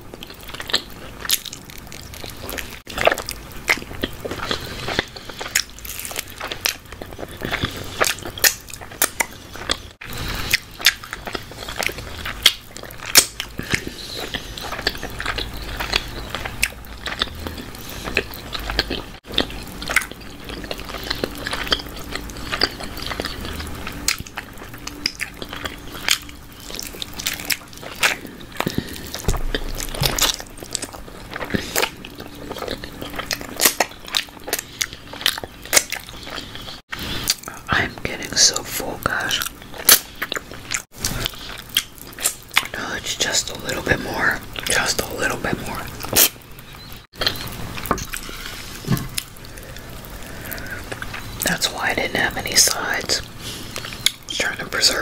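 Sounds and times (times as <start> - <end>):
chewing and biting chicken: 0.1 - 37.7, 39.2 - 51.5.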